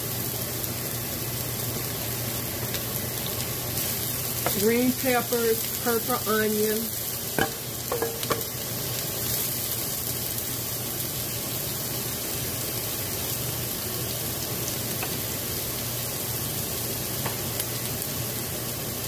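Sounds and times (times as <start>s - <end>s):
vegetables sizzling in a frying pan: 0.0s - 19.0s.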